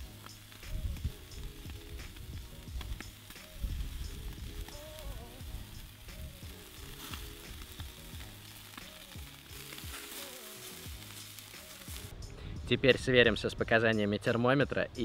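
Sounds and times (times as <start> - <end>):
steaks sizzling on a grill: 0.0 - 12.2.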